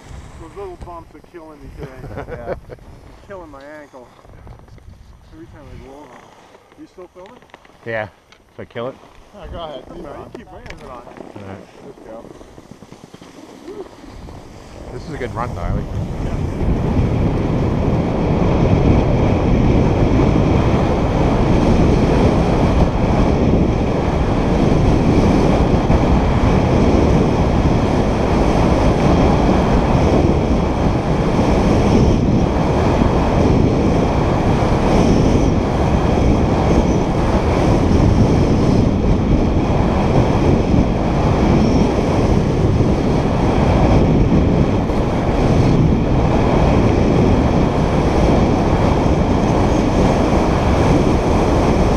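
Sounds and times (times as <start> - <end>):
skis carving over snow: 0.0 - 51.9
wind buffeting microphone: 0.0 - 51.9.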